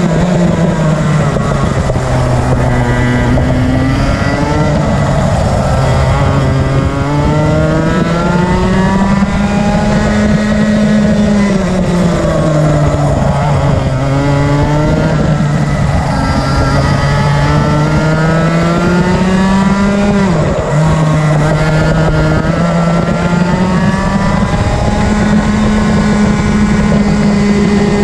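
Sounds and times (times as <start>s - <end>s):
kart engine revving: 0.0s - 28.0s.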